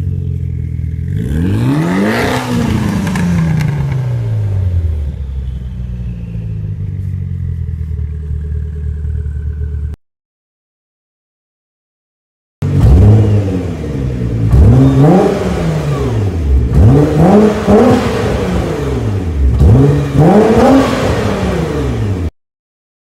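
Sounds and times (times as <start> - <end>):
car engine revving: 0.0 - 10.0, 12.6 - 22.3.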